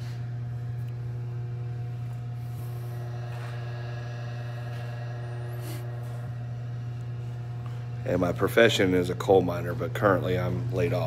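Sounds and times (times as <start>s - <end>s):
steady low hum: 0.0s - 11.0s
faint steady tones: 0.3s - 11.0s.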